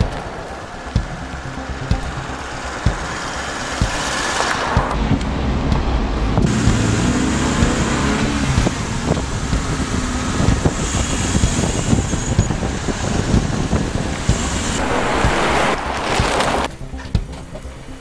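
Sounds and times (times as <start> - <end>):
car engines accelerating: 0.0 - 18.0
tyre and road noise: 0.0 - 18.0.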